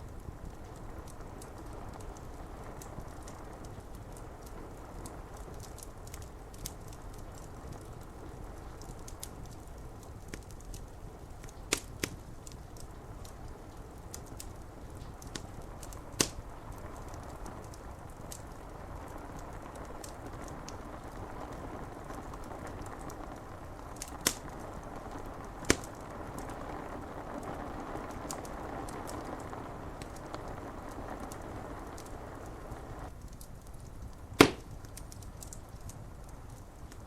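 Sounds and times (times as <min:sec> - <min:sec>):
rain on window glass: 0:00.0 - 0:37.0
wood fire crackling and popping: 0:00.0 - 0:37.0.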